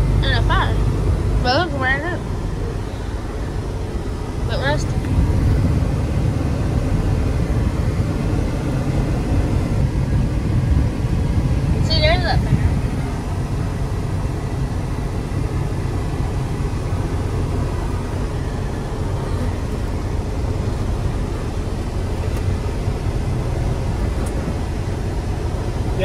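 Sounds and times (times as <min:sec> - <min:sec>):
road noise: 0:00.0 - 0:26.0
truck diesel engine running: 0:00.0 - 0:26.0.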